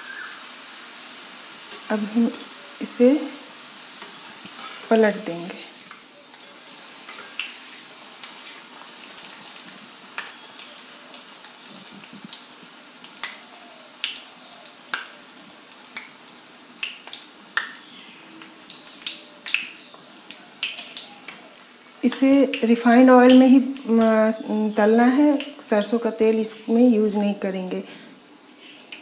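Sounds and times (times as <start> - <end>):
food deep-frying in oil: 0.0 - 29.0.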